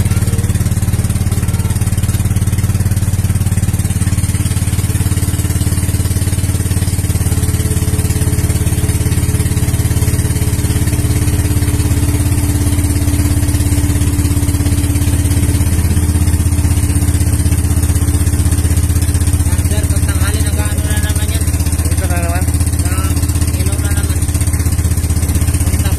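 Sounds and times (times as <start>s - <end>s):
boat engine chugging: 0.0s - 25.9s.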